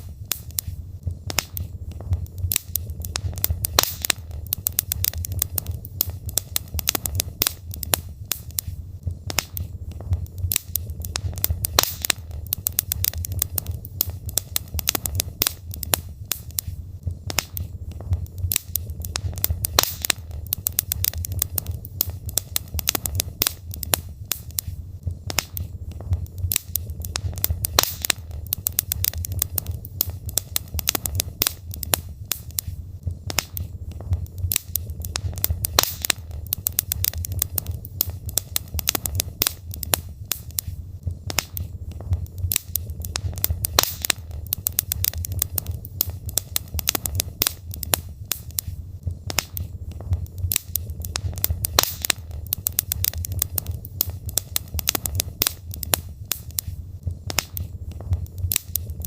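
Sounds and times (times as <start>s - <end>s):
burning logs popping and snapping: 0.0s - 59.0s
fire flames rumbling: 0.0s - 59.0s.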